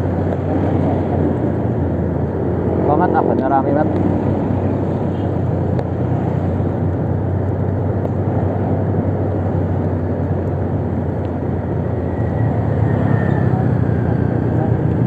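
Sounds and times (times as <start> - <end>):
motorcycle engine hum: 0.0 - 15.0
road and wind noise: 0.0 - 15.0.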